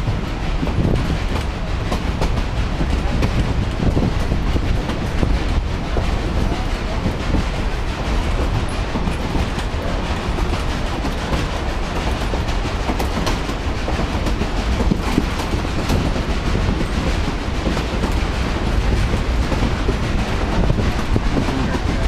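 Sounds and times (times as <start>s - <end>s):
rail joint clicks: 0.0s - 22.0s
wheels rumbling on rails: 0.0s - 22.0s.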